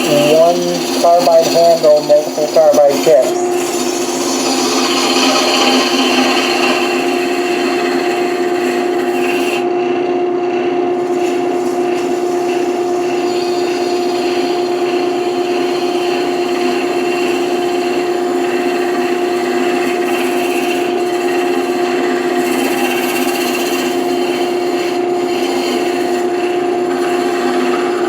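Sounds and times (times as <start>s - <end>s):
turning tool scraping wood: 0.0s - 9.8s, 10.9s - 28.0s
wood lathe humming: 0.0s - 10.2s, 10.8s - 28.0s.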